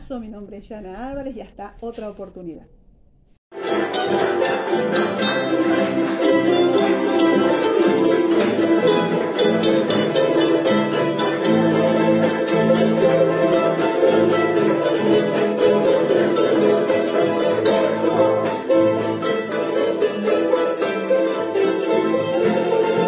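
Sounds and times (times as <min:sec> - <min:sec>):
charangos strummed fast: 0:03.5 - 0:23.0.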